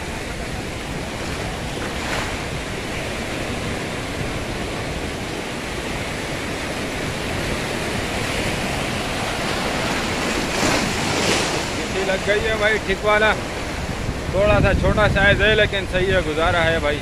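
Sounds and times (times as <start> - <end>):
waves washing against shore: 0.0 - 17.0
wind on microphone: 0.0 - 17.0.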